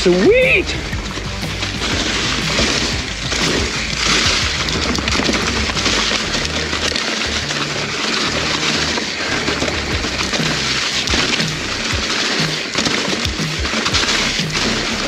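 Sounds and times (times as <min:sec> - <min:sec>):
background music with bass line: 0:00.0 - 0:15.0
bike tyres crackling through leaves: 0:00.0 - 0:15.0.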